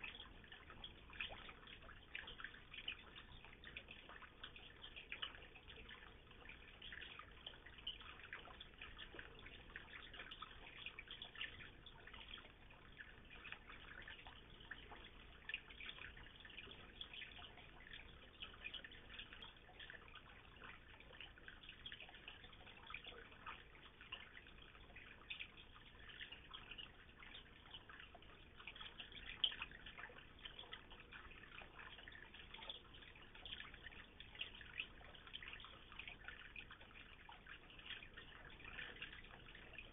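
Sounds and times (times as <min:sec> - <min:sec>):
water pouring into pond: 0:00.0 - 0:39.9.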